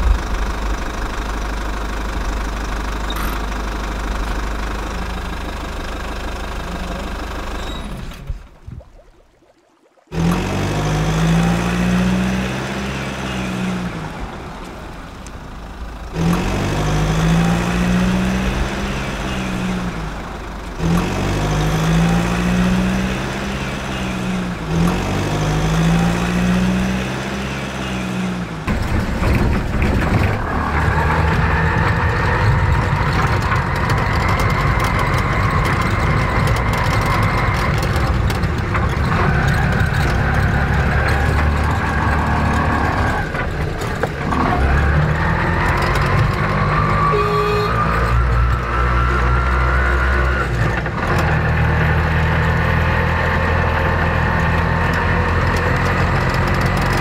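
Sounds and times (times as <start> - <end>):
heavy vehicle engine: 0.0 - 8.4, 10.1 - 57.0.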